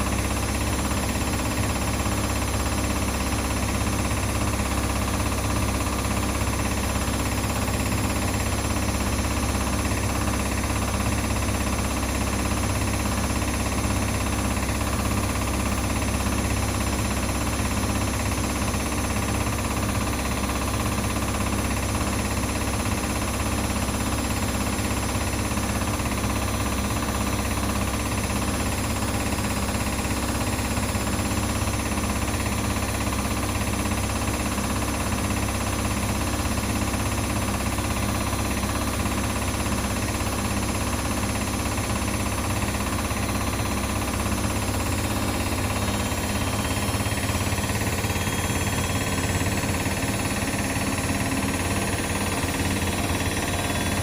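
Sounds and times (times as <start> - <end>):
washing machines and dryers humming: 0.0 - 54.0.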